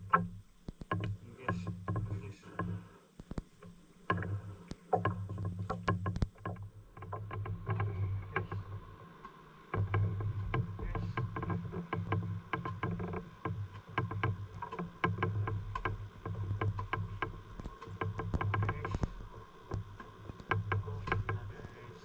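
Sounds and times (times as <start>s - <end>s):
boat engine droning: 0.0s - 22.0s
sharp clicks and knocks: 0.0s - 22.0s.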